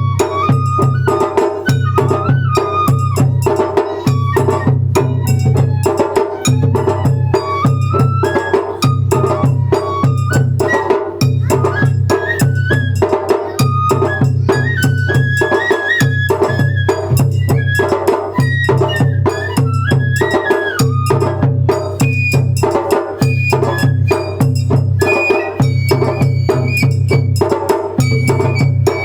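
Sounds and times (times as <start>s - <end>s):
high bamboo flute melody: 0.0s - 29.0s
sharp clicking percussion: 0.0s - 29.0s
taiko drum beats: 0.0s - 29.0s.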